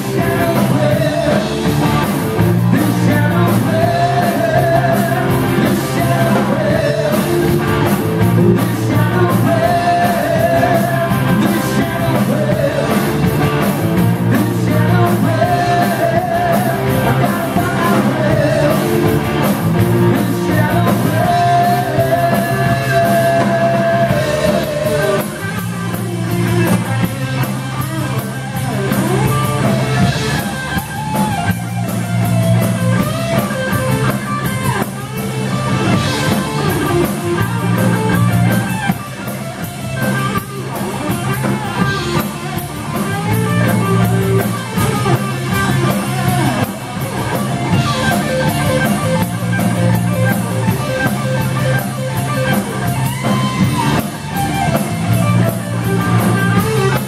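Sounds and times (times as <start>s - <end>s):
bass guitar: 0.0s - 57.0s
drum kit: 0.0s - 57.0s
electric guitar: 0.0s - 57.0s
man singing lead: 0.0s - 57.0s.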